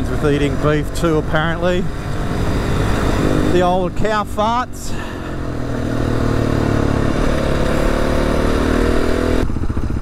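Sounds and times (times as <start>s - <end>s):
riding noise: 0.0s - 9.4s
motorcycle engine: 0.0s - 10.0s.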